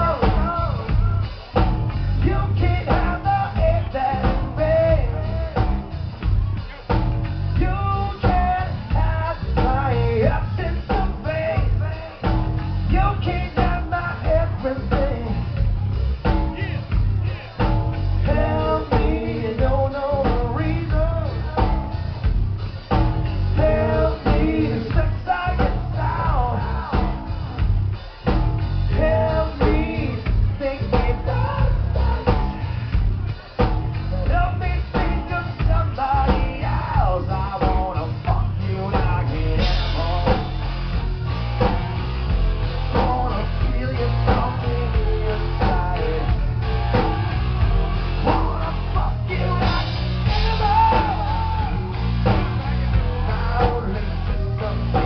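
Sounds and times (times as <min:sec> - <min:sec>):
drum kit: 0:00.0 - 0:55.0
singer through pa: 0:00.0 - 0:55.0.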